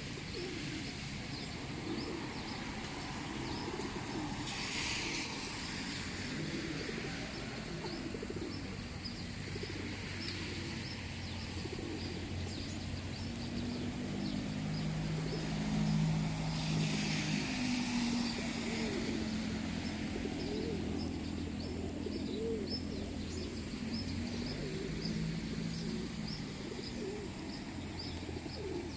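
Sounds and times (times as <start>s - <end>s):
pigeons cooing: 0.0s - 28.9s
sparrows chirping: 1.2s - 4.4s, 6.5s - 28.9s.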